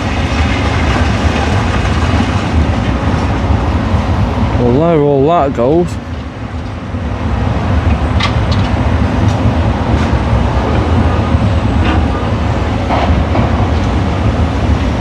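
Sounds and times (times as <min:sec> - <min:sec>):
excavator rumbling: 0:00.0 - 0:15.0.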